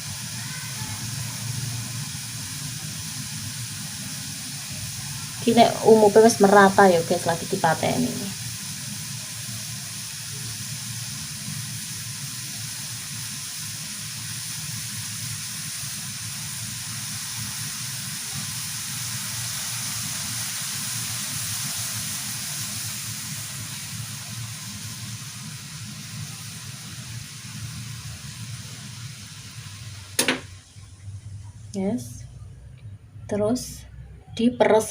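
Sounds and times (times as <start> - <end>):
pot boiling with steady hiss: 0.0 - 34.9.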